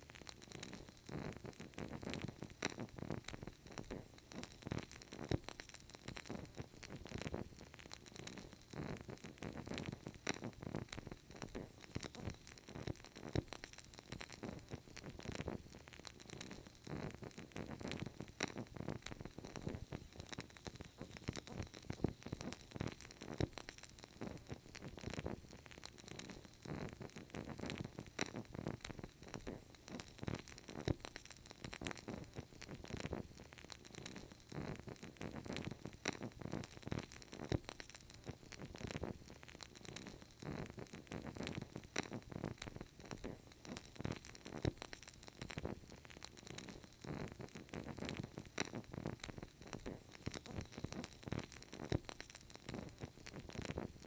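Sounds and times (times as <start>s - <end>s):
candle wick crackling: 0.0s - 54.0s
faint steady hiss: 0.0s - 54.0s.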